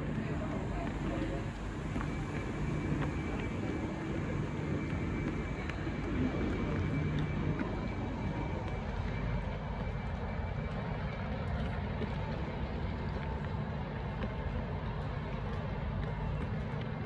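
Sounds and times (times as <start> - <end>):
railway station background noise: 0.0 - 17.0.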